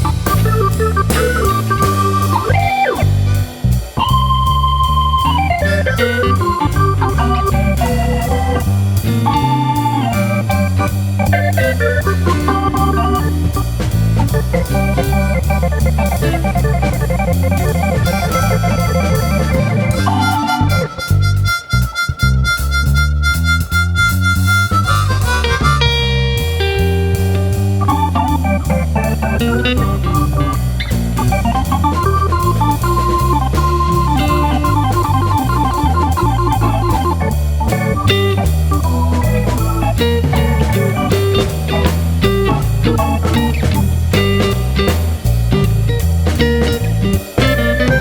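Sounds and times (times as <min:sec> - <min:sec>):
organ music with bass and beat: 0:00.0 - 0:48.0.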